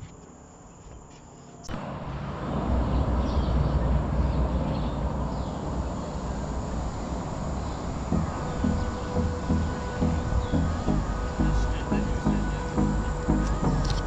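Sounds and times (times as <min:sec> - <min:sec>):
wind buffeting microphone: 0:01.7 - 0:14.0.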